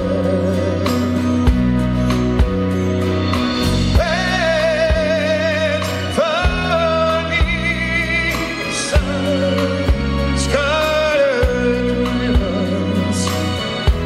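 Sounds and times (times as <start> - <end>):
man singing with vibrato: 0.0 - 1.6, 3.7 - 14.0
live band playing slow song: 0.0 - 14.0.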